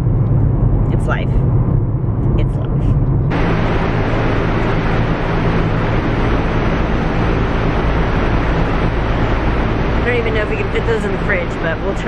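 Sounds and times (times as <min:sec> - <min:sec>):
fans and refrigeration humming: 0:00.0 - 0:12.0
steady rushing noise: 0:00.0 - 0:12.0.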